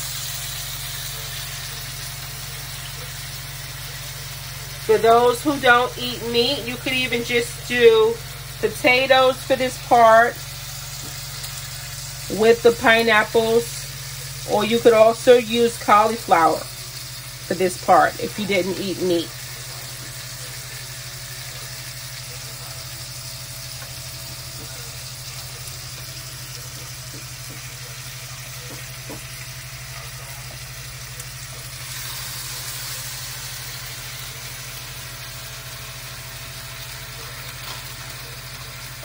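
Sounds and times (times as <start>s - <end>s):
food sizzling on electric grill: 0.0s - 39.0s.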